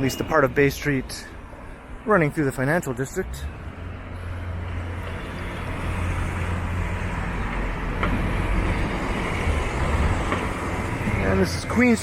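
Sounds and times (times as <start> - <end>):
road hiss: 0.0 - 12.0
vehicle engine rumbling: 0.0 - 12.0.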